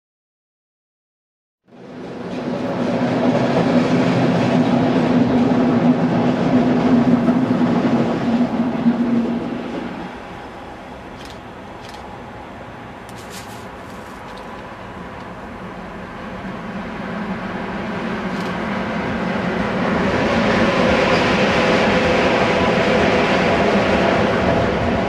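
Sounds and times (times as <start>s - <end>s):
freight train passing: 1.7s - 25.0s
train wheel noise: 1.7s - 25.0s.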